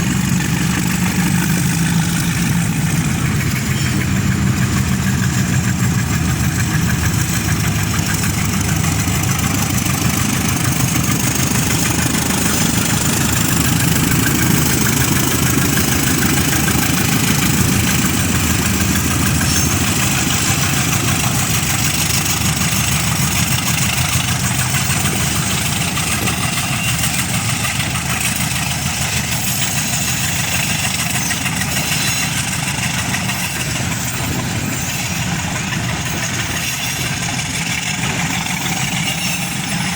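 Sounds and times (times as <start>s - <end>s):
locomotive engine running: 0.0s - 39.9s.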